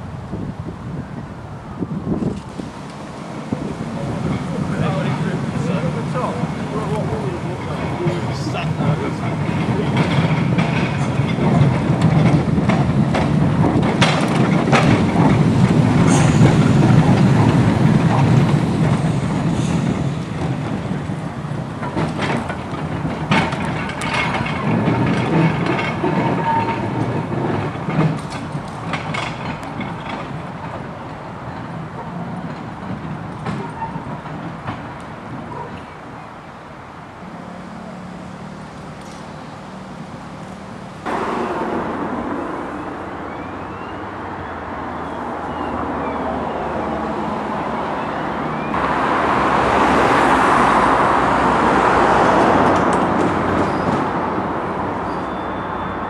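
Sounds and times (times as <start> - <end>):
electric tram rumbling: 0.0 - 56.0
wheels clicking on rails: 2.2 - 44.0, 48.7 - 56.0.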